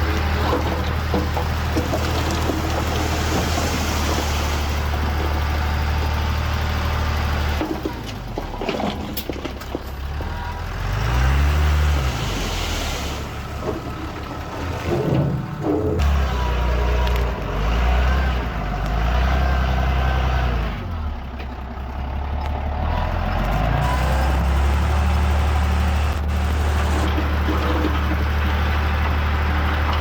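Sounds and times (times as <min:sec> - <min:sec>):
heavy machinery diesel engine: 0:00.0 - 0:30.0.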